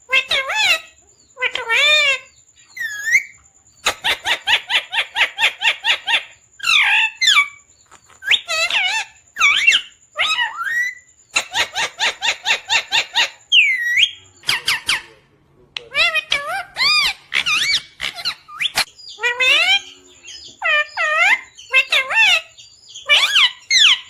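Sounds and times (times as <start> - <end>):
parrot calling loudly: 0.1 - 7.6, 8.2 - 15.2, 15.8 - 24.0
parrot squawks: 0.1 - 7.6, 8.2 - 15.2, 15.8 - 24.0.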